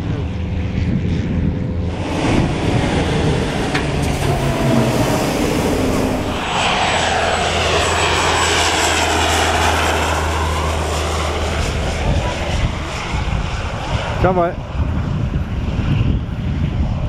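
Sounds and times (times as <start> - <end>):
propeller aircraft engine drone: 0.0 - 17.0
wavering close engine whine: 0.0 - 17.0.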